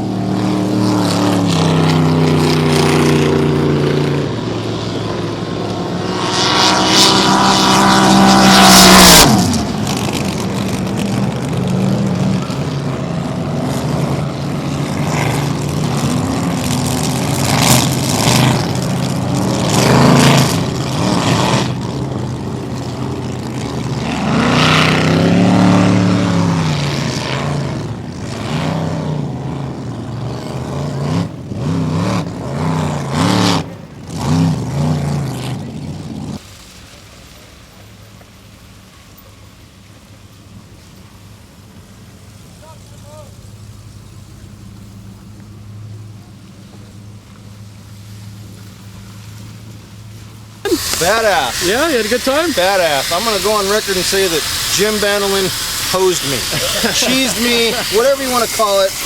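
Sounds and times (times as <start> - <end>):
loud boat passing: 0.0 - 59.0
race boat engines: 0.0 - 59.0.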